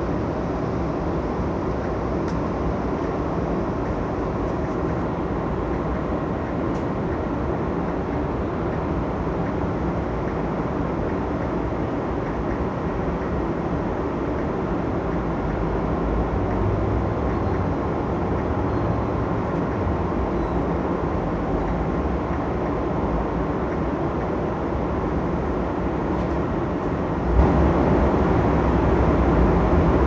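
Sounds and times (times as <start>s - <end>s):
moving train rumble: 0.0s - 30.0s.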